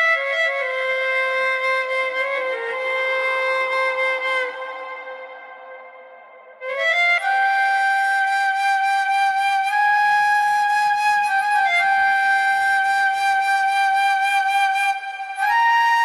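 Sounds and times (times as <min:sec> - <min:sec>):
flute holding a long note: 0:00.0 - 0:16.0.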